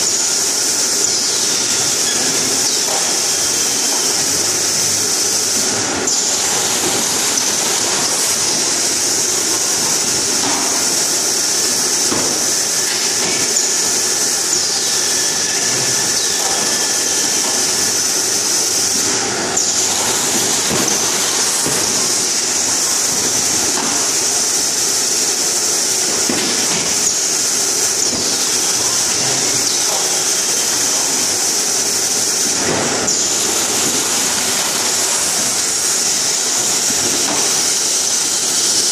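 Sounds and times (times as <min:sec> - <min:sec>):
packing machine running: 0:00.0 - 0:38.9.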